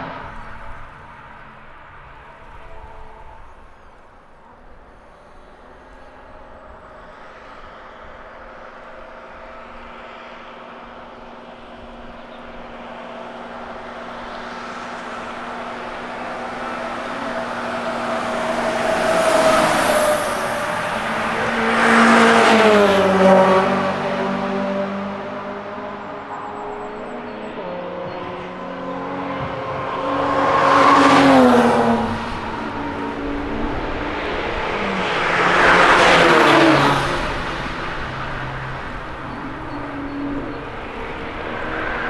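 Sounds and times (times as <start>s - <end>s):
racing cars passing at speed: 0.0s - 42.0s.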